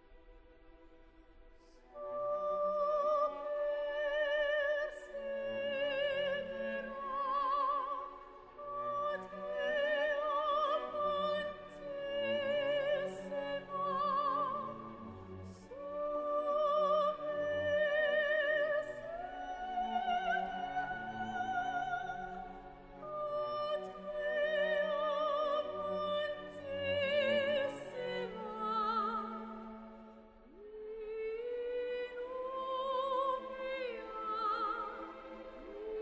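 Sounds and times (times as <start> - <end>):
classical accompaniment: 0.0 - 36.0
operatic singing high voice: 1.8 - 36.0.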